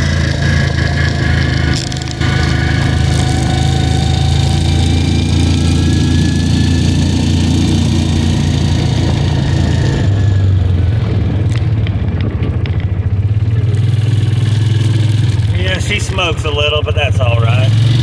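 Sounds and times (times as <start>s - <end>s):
small gas engine droning: 0.0s - 18.0s.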